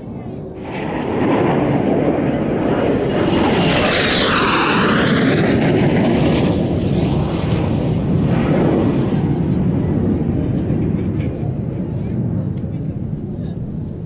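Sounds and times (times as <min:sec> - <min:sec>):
jet passing overhead: 0:00.0 - 0:14.0.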